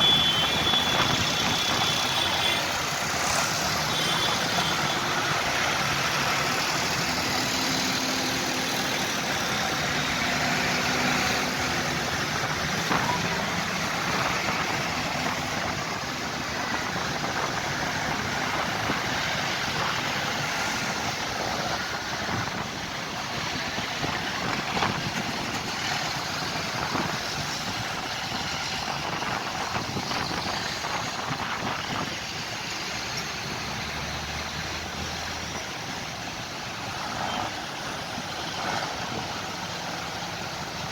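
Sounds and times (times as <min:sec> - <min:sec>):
tractor engines running: 0:00.0 - 0:40.9.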